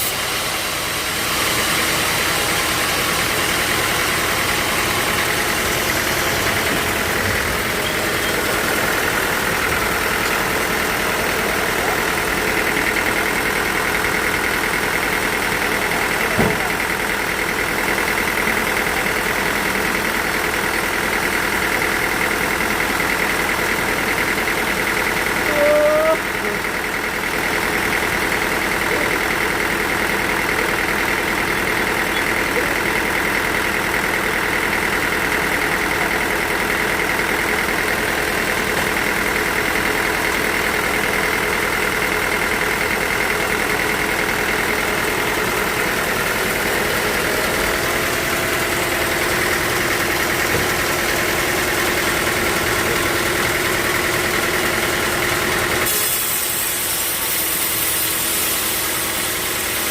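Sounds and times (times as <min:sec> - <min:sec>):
sawmill machinery drone and whine: 0:00.0 - 0:59.9.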